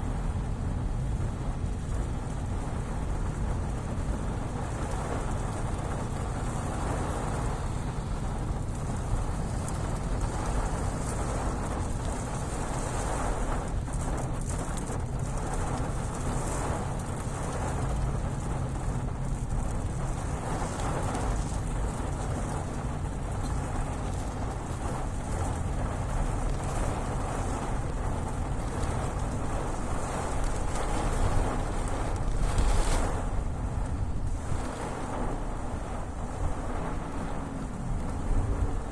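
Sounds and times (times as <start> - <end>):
heavy rain falling: 0.0 - 38.9
low rumble: 0.0 - 38.9.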